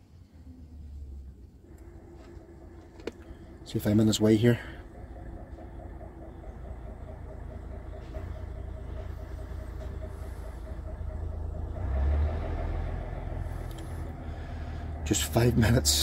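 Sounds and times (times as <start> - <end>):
lorry diesel engine rumbling: 0.0 - 16.0.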